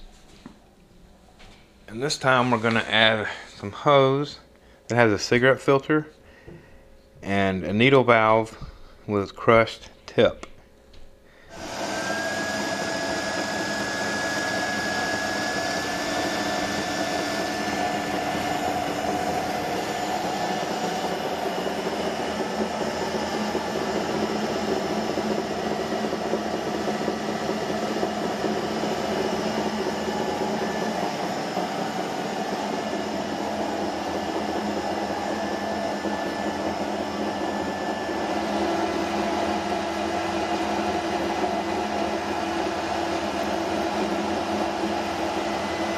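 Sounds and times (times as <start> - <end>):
alternator whine and hum: 0.0 - 45.9.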